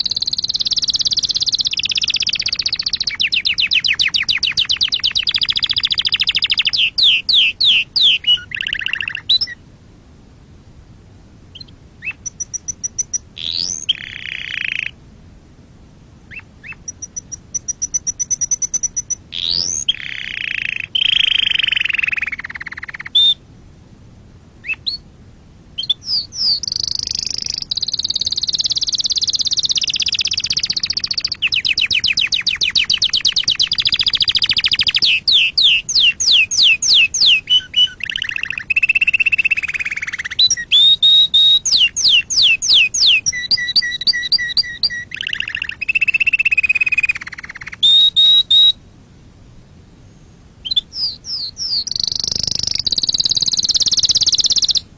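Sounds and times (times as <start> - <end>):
canary singing: 0.0 - 9.6, 11.5 - 15.0, 16.3 - 23.4, 24.6 - 25.0, 25.8 - 48.8, 50.6 - 54.9.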